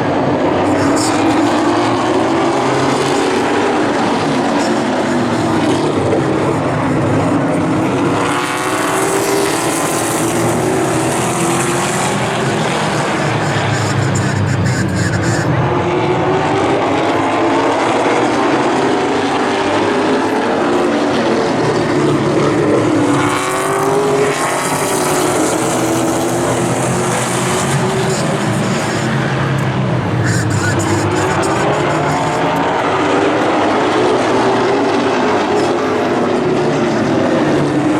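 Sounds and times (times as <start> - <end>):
stock car engines racing: 0.0 - 37.9.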